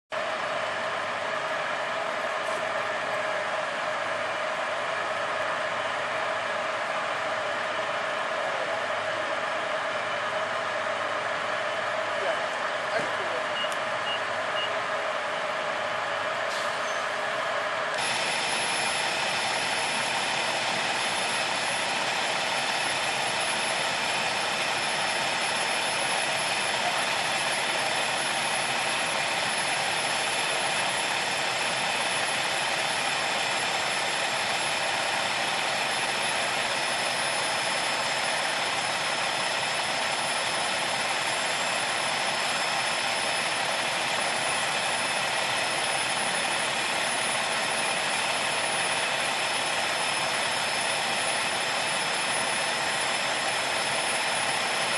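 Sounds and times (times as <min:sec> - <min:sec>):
diesel engines running: 0:00.1 - 0:54.9.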